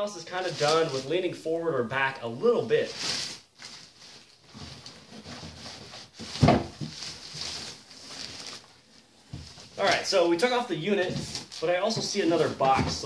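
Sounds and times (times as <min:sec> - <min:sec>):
plastic wrapping crinkling: 0:00.2 - 0:01.3, 0:02.6 - 0:13.0.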